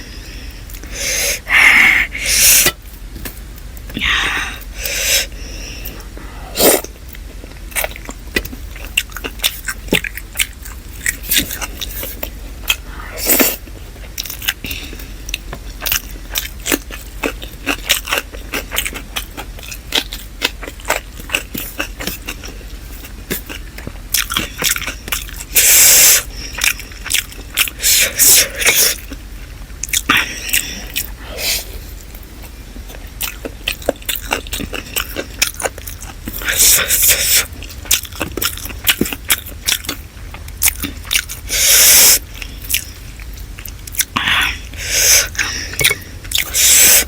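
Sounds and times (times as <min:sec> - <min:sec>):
chewing with wet mouth clicks: 0:05.8 - 0:31.2, 0:32.0 - 0:44.3, 0:45.0 - 0:47.0.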